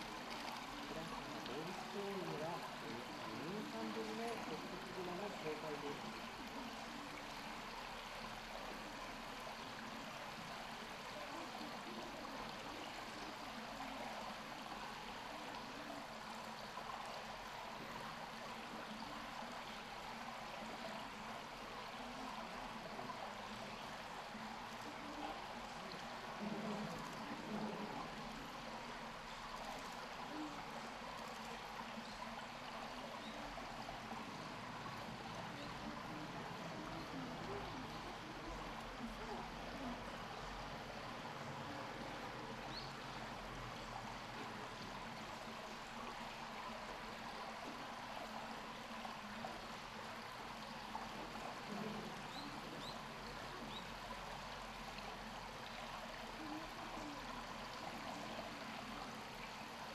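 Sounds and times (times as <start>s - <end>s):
faint voices: 0.0s - 59.9s
rushing water-like noise: 0.0s - 59.9s.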